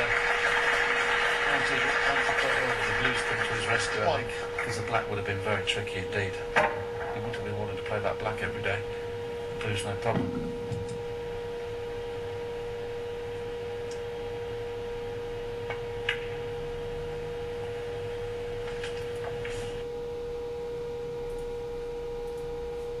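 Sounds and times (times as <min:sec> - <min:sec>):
steady single-pitched hum: 0:00.0 - 0:23.0.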